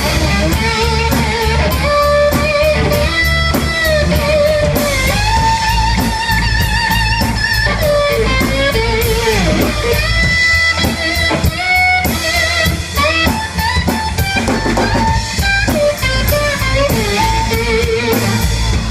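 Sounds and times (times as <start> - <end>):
drum kit with cymbal strokes: 0.0 - 18.9
electric guitar lead: 0.0 - 18.9.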